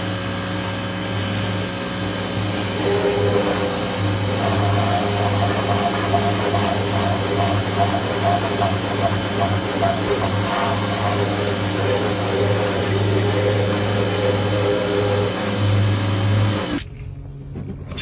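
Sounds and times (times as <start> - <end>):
pressure washer motor hum: 0.0 - 16.9
water jet hissing: 2.1 - 16.8.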